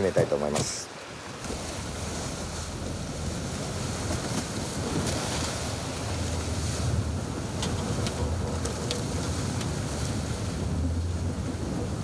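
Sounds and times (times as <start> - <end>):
sea waves: 0.0 - 12.0
wind on microphone: 1.4 - 12.0
low rumble: 1.5 - 12.0.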